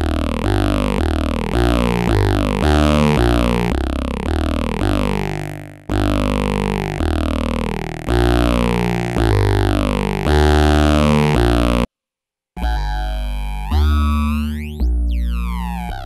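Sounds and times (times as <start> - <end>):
synthesizer bass note with phaser: 0.0 - 11.9, 12.6 - 16.0.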